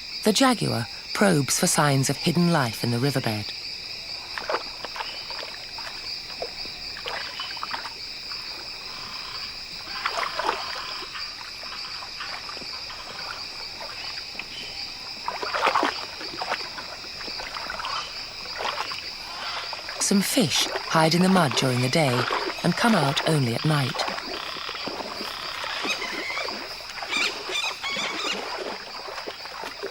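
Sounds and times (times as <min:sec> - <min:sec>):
insects droning: 0:00.0 - 0:29.9
animal splashing through water: 0:04.2 - 0:29.9.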